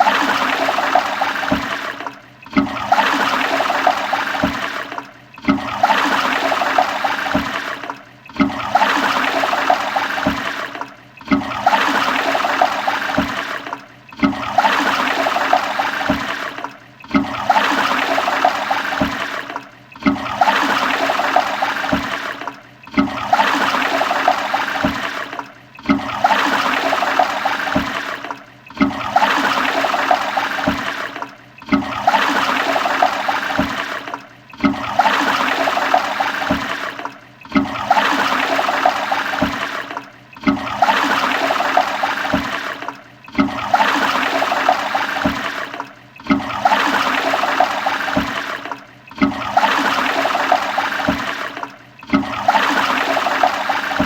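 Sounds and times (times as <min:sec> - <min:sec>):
toilet flushing: 0:00.0 - 0:54.0.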